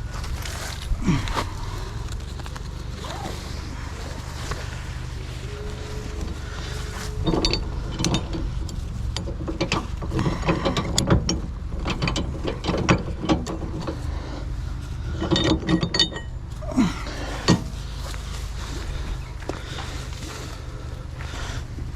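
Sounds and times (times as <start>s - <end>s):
steady low hum: 0.0s - 21.9s
metal rigging clanking: 0.3s - 21.9s.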